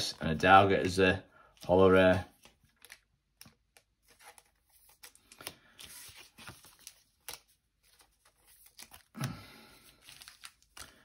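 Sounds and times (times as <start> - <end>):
cards sliding and rustling: 1.6 - 9.2, 9.8 - 11.0.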